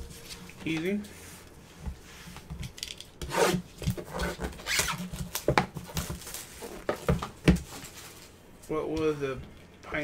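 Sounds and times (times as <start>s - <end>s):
cardboard and wrappers rustling: 0.0s - 2.8s, 3.7s - 9.3s.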